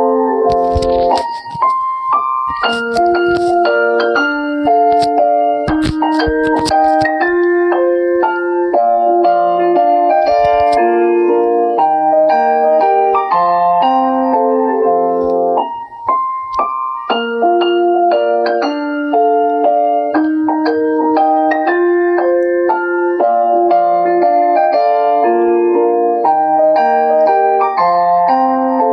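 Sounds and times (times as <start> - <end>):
electric piano ringtone melody: 0.0 - 28.9.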